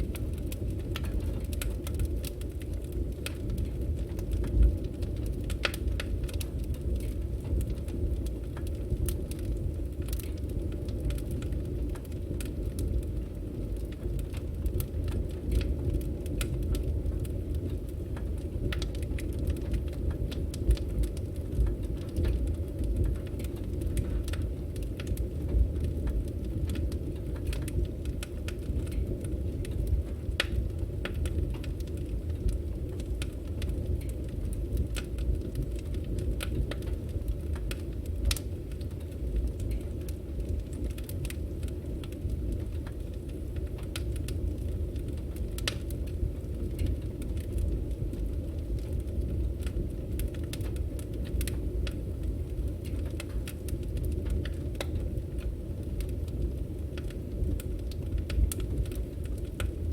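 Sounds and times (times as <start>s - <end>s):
low rumble of flames: 0.0s - 59.9s
wood crackling and popping: 0.0s - 59.9s.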